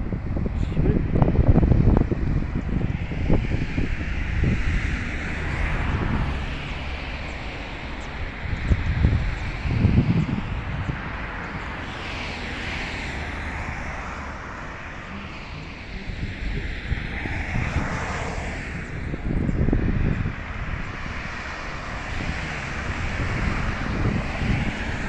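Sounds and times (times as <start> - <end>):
cars passing: 0.0 - 25.0
wind buffeting microphone: 0.0 - 25.0.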